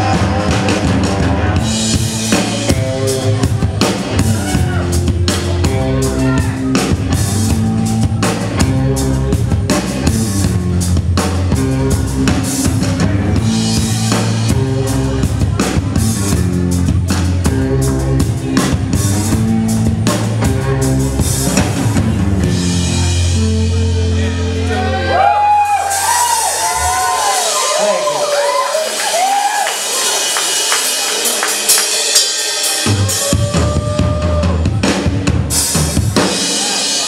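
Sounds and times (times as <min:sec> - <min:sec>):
bass guitar: 0:00.0 - 0:37.0
drum kit: 0:00.0 - 0:37.0.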